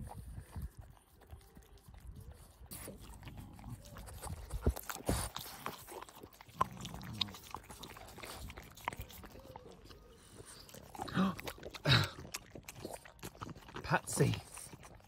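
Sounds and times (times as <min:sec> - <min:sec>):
dogs licking: 0:00.0 - 0:15.0.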